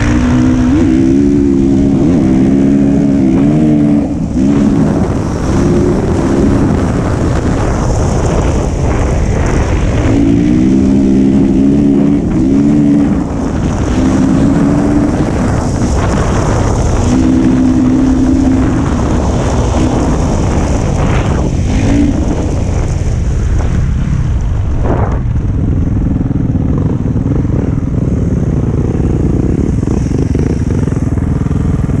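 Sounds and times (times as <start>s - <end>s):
dirt bike engine revving: 0.0s - 23.9s, 24.8s - 32.0s.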